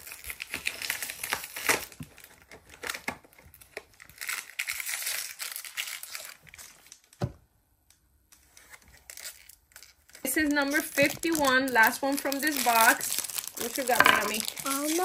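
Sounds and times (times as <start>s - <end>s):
plastic packaging rustling: 0.0s - 7.2s, 8.4s - 15.0s.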